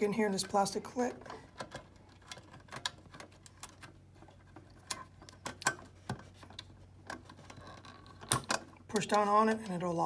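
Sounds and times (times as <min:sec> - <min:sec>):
wires and plastic parts clicking: 0:00.1 - 0:10.0.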